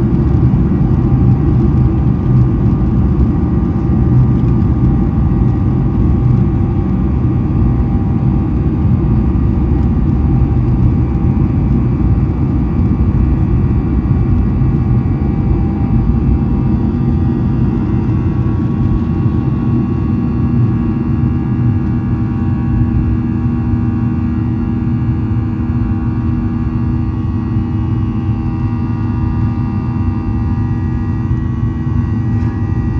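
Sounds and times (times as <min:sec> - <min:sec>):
jet engines running: 0:00.0 - 0:32.9.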